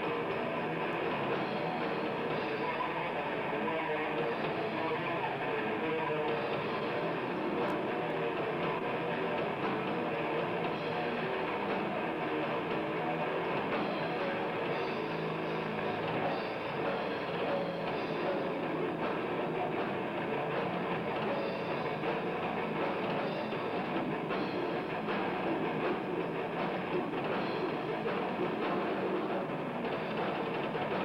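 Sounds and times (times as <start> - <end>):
death metal band playing live: 0.0 - 31.0.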